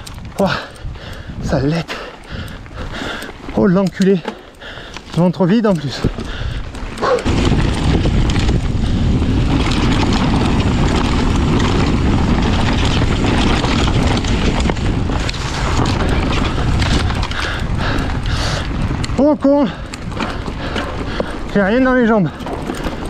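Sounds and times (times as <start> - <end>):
wind on microphone: 0.0 - 4.0, 5.8 - 21.6
bike tyres clattering over stones: 0.0 - 23.0.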